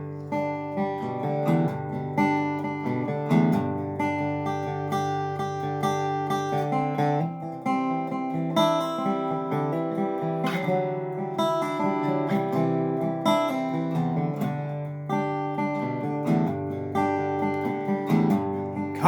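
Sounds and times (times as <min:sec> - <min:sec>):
resonator guitar strummed: 0:00.0 - 0:19.0.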